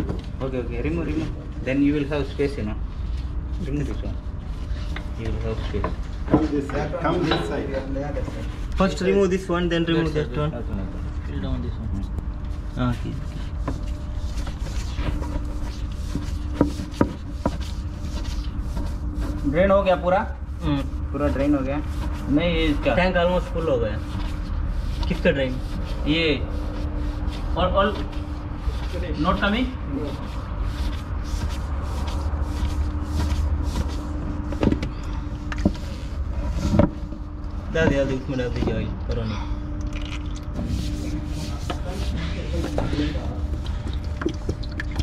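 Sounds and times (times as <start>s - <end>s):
low machinery drone: 0.0s - 45.0s.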